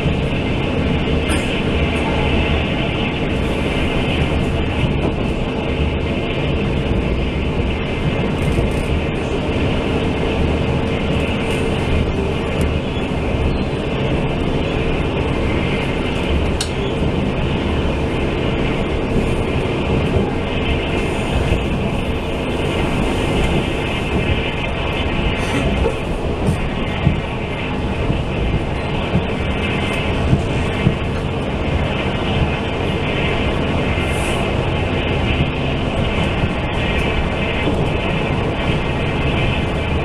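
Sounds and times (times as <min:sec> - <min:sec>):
train wheels rolling on rails: 0:00.0 - 0:40.0.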